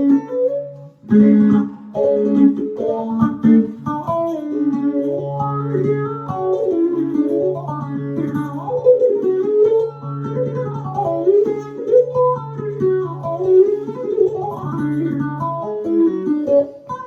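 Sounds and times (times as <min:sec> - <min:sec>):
electric long-necked lute plucked: 0:00.0 - 0:17.0.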